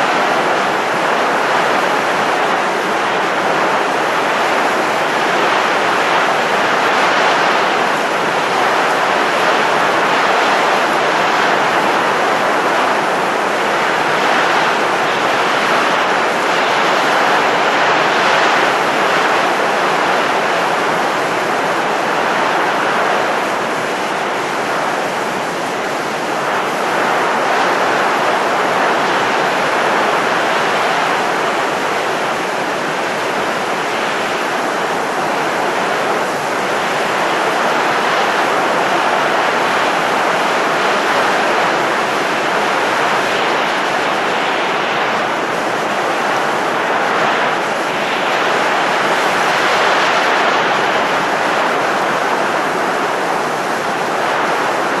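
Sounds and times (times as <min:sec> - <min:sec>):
wind blowing: 0:00.0 - 0:55.0.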